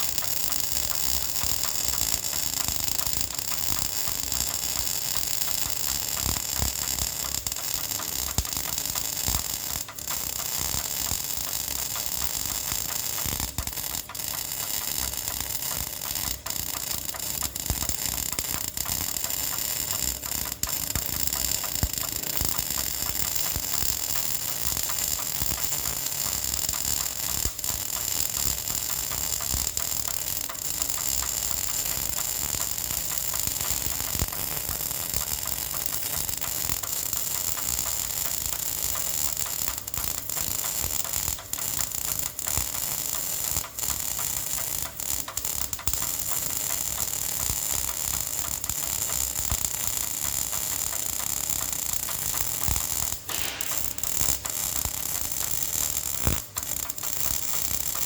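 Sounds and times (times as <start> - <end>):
welding arc crackling: 0.0 - 58.0.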